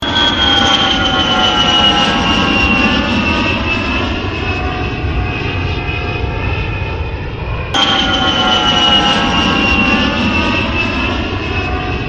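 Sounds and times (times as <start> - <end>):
jet aeroplane passing: 0.0 - 12.0.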